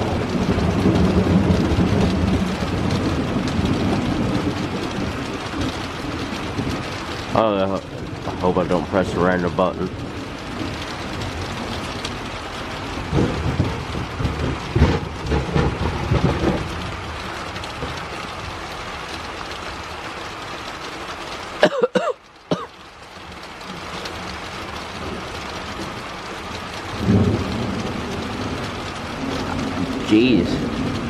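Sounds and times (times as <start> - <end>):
thunder rumbling: 0.0 - 20.4, 23.2 - 31.0
steady rain: 0.0 - 31.0.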